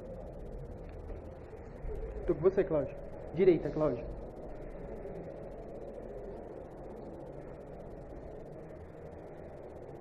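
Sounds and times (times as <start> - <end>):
low background noise: 0.0 - 10.0.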